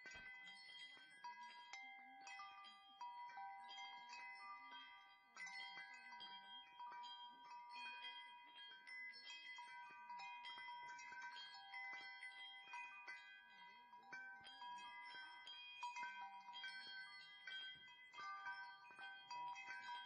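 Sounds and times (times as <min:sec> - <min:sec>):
wind chimes tinkling: 0:00.0 - 0:20.0.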